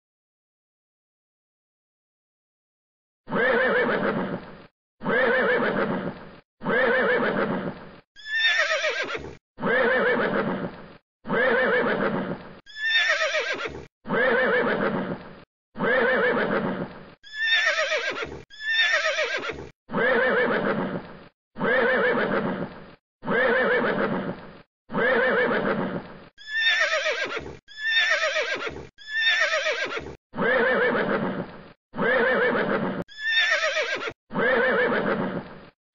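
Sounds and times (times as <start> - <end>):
recorded horse whinny: 3.3 - 35.6.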